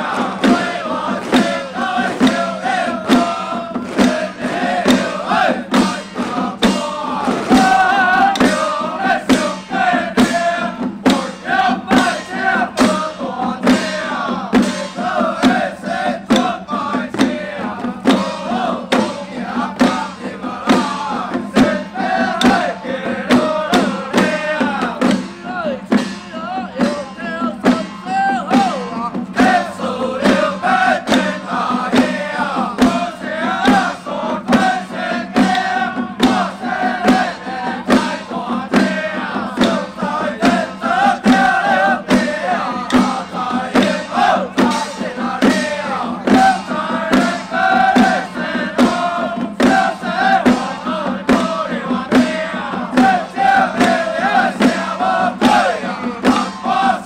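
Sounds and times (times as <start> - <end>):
hand drums beating: 0.0 - 57.0
men chanting: 0.0 - 57.0.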